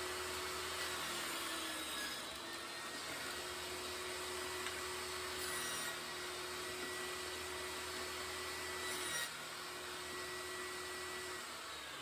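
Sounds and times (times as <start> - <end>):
table saw cutting board: 0.0 - 12.0.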